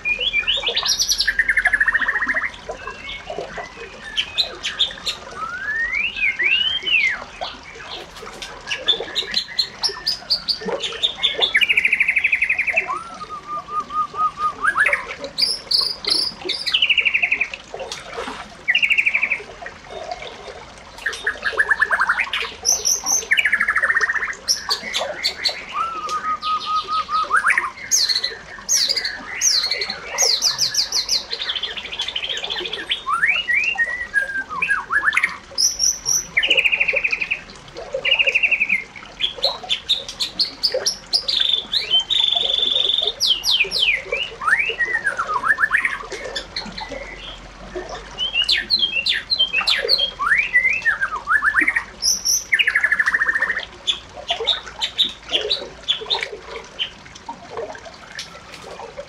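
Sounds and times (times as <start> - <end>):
birds chirping and calling: 0.0 - 57.1.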